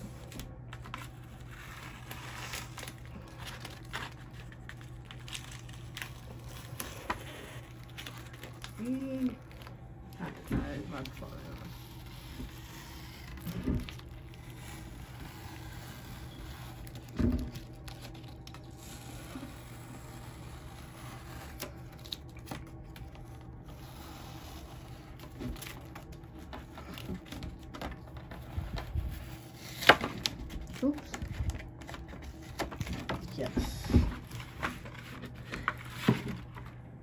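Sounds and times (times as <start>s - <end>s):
tape peeling off: 0.2s - 9.7s, 11.0s - 33.3s.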